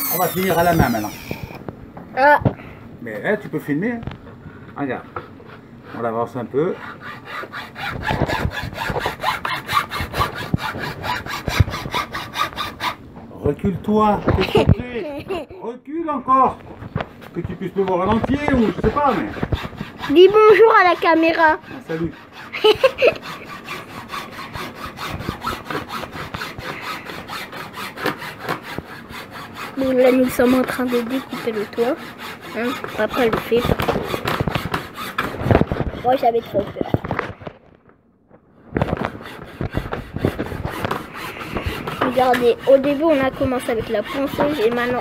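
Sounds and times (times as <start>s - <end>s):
saw cutting wooden board: 0.0s - 1.7s, 5.1s - 13.1s, 13.9s - 15.6s, 17.0s - 37.5s, 38.7s - 45.0s.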